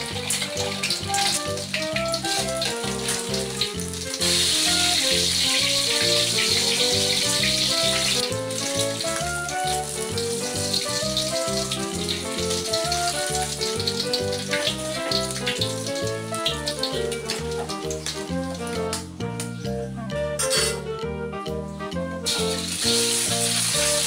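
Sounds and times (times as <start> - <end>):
egg sizzling in hot oil: 0.0 - 19.1, 22.2 - 24.0
background music with beat: 0.0 - 24.0.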